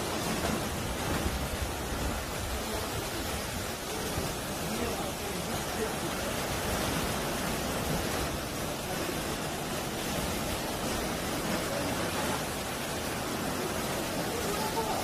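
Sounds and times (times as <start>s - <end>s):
sea waves washing over rocks: 0.0s - 15.0s.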